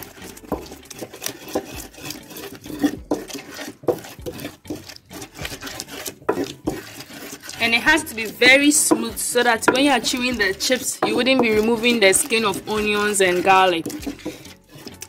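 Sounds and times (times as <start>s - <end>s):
pestle grinding in earthenware bowl: 0.0s - 15.0s.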